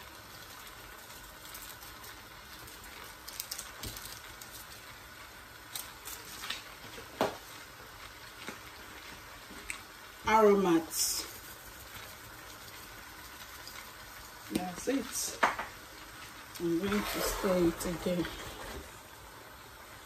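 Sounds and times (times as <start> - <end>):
soup simmering and bubbling: 0.0 - 20.0.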